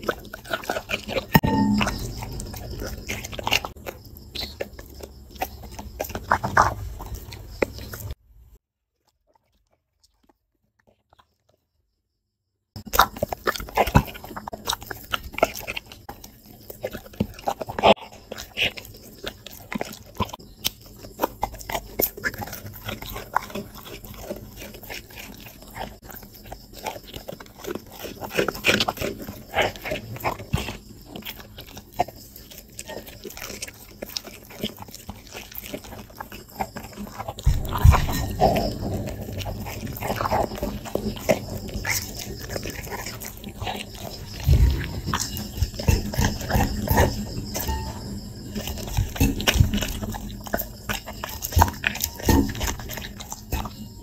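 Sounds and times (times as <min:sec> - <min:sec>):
dog chewing and licking: 0:00.0 - 0:08.2, 0:12.8 - 0:54.0.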